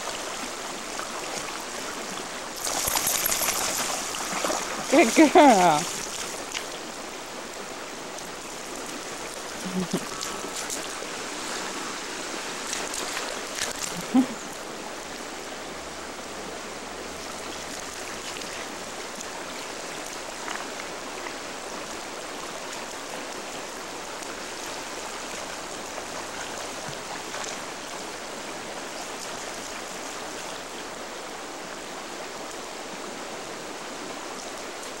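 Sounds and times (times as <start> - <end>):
river flowing over rocks: 0.0 - 35.0.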